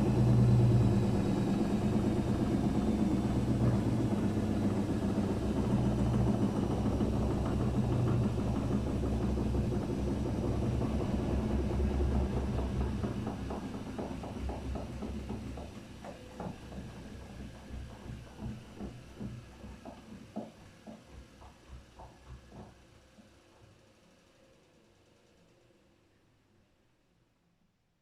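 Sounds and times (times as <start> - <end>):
washing machine spinning: 0.0 - 23.1.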